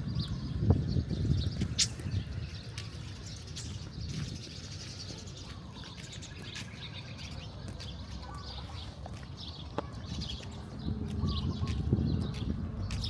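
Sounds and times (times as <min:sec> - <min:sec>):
low street rumble: 0:00.0 - 0:13.0
small birds chirping: 0:00.0 - 0:13.0.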